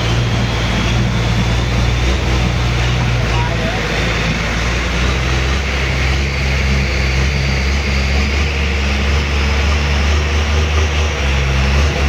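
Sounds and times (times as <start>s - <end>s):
boat engine humming: 0.0s - 12.0s
wind: 0.0s - 12.0s.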